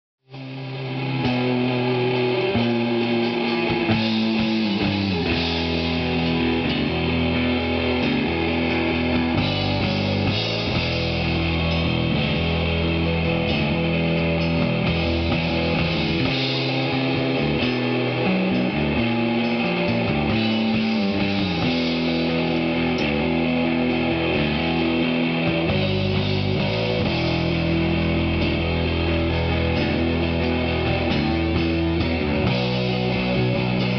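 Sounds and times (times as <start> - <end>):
rock music with electric guitar: 0.2 - 33.9.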